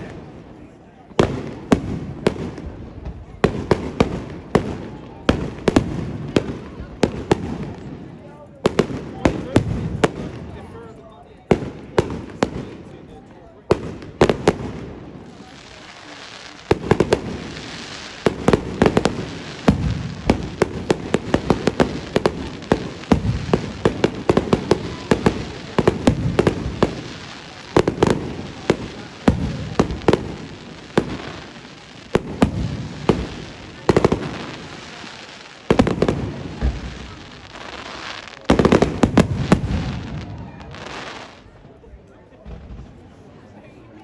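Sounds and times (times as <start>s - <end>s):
fireworks bangs and crackles: 0.0s - 43.8s.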